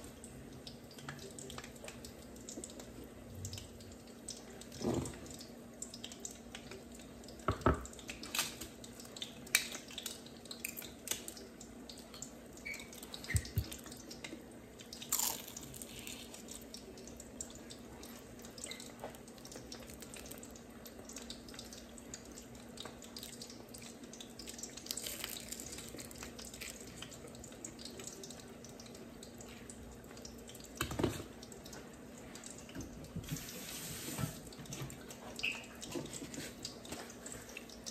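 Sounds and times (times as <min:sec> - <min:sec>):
kitchen hum: 0:00.0 - 0:37.9.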